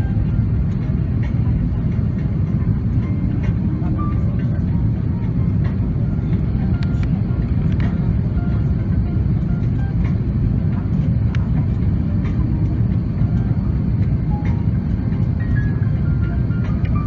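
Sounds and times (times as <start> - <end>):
airplane cabin engine roar: 0.0 - 17.0.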